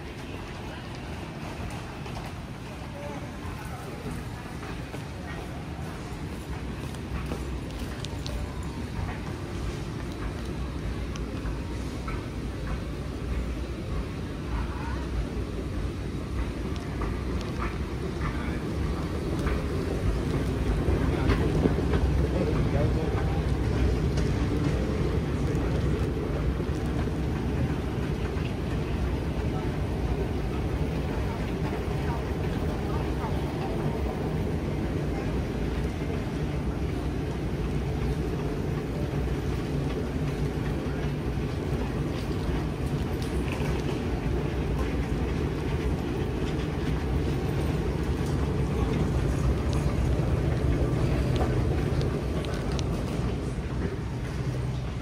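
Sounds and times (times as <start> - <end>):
airport terminal rumble and hiss: 0.0 - 55.0.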